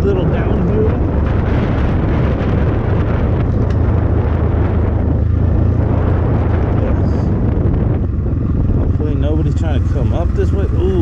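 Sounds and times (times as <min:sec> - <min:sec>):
dirt bike engine running: 0:00.0 - 0:11.0
wind buffeting microphone: 0:00.0 - 0:11.0.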